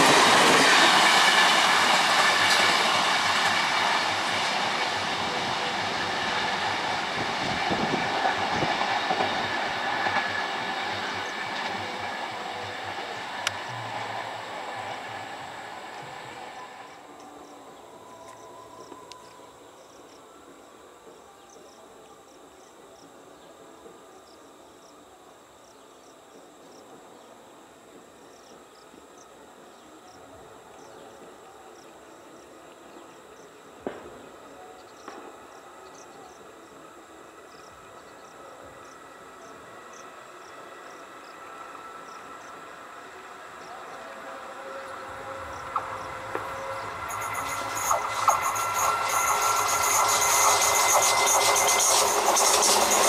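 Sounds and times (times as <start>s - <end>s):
high insect drone: 0.0s - 53.0s
insects chirping: 0.0s - 53.0s
train running: 0.0s - 53.0s.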